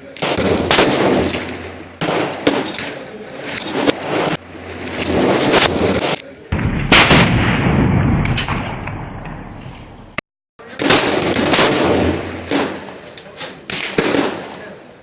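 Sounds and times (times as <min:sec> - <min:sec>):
rifle shots echoing: 0:00.1 - 0:09.3, 0:10.6 - 0:13.0, 0:13.7 - 0:14.7.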